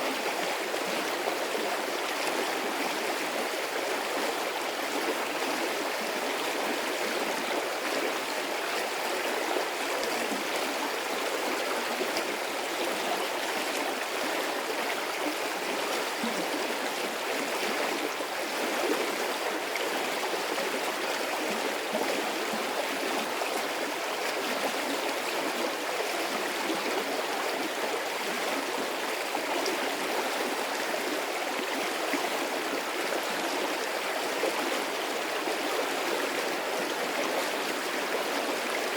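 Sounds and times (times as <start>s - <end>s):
stream of water rushing: 0.0s - 38.9s.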